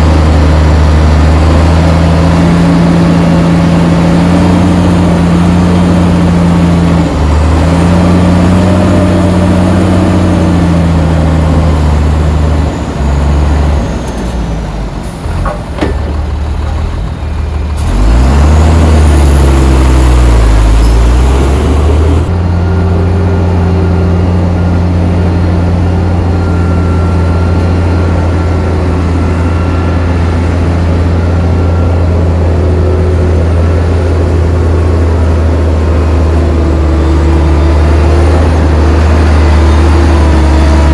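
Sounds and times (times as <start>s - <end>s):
heavy diesel engine revving: 0.0s - 40.9s.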